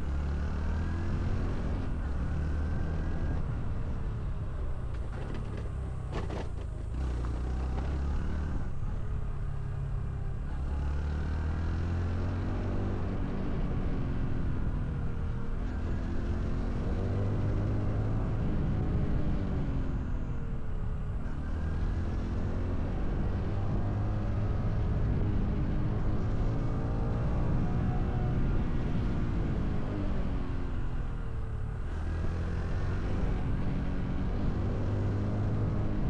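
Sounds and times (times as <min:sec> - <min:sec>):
motorcycle engine and exhaust: 0:00.0 - 0:36.0.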